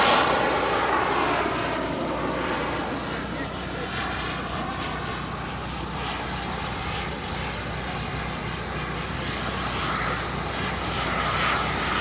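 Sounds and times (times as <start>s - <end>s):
model jet turbine whine: 0.0s - 12.0s.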